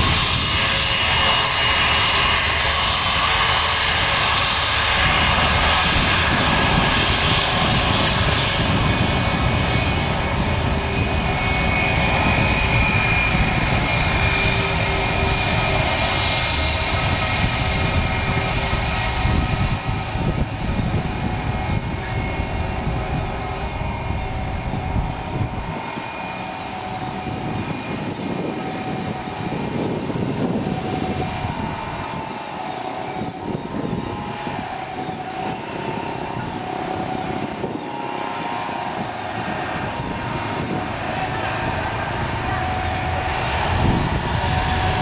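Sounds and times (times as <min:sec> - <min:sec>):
jet engines at take-off: 0:00.0 - 0:45.0.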